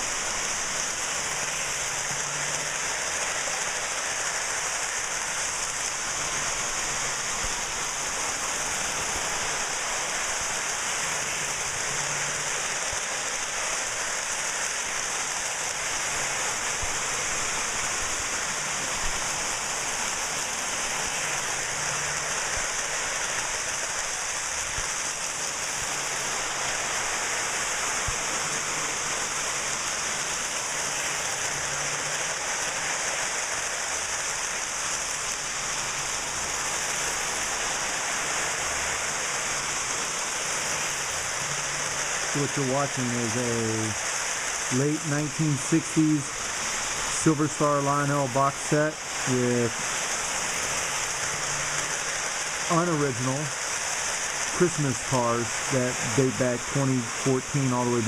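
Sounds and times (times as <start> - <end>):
toy electric trains running: 0.0 - 58.0.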